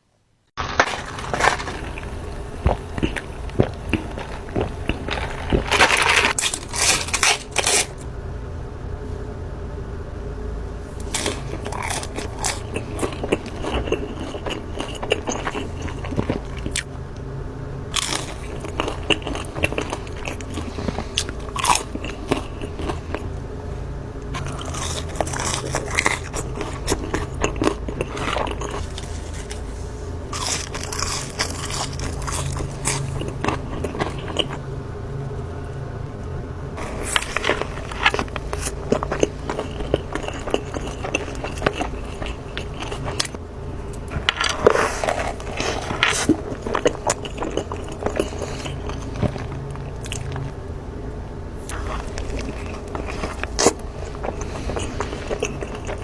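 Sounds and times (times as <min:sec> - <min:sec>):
person chewing crunchy food: 0:00.5 - 0:08.0, 0:10.9 - 0:16.9, 0:17.9 - 0:23.4, 0:24.3 - 0:34.7, 0:36.8 - 0:50.7, 0:51.6 - 0:56.0.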